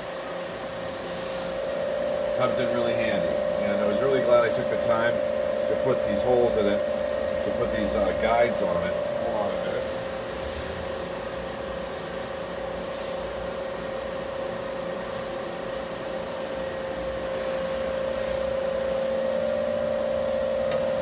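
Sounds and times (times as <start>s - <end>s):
mid-pitched whine: 0.0s - 21.0s
milling machine humming: 0.0s - 21.0s.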